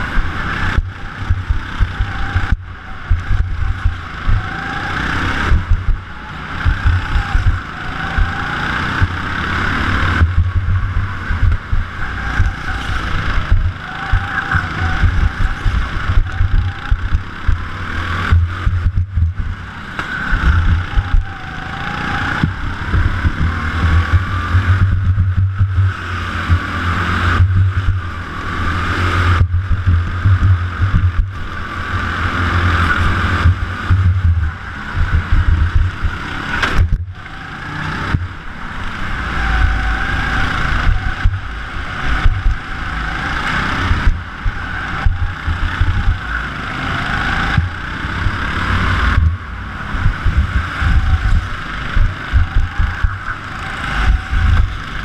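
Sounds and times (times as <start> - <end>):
go-kart engine racing: 0.0 - 55.0.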